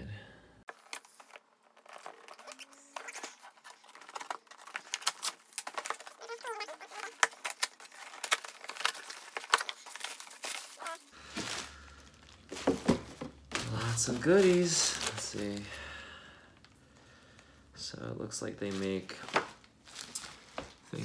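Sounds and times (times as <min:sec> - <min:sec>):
plastic packaging crinkling: 0:00.7 - 0:15.8, 0:18.6 - 0:21.0.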